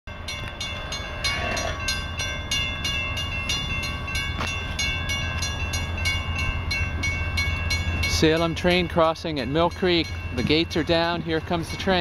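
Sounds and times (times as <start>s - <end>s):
railroad crossing bell ringing: 0.1s - 12.0s.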